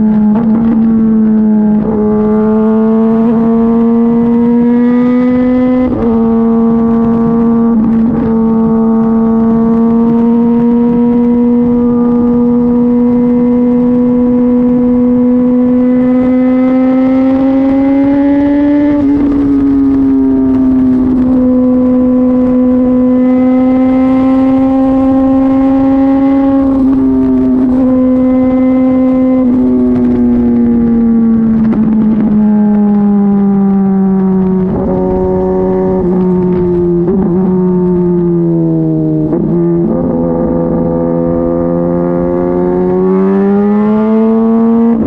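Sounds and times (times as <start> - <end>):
motorcycle engine drone: 0.0 - 45.0.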